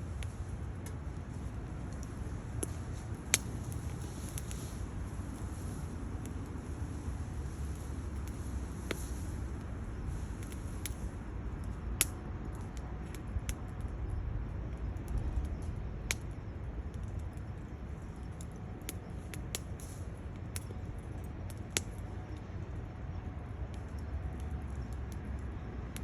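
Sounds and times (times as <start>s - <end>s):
low steady stove rumble: 0.0s - 26.0s
wood fire crackling and popping: 0.0s - 26.0s.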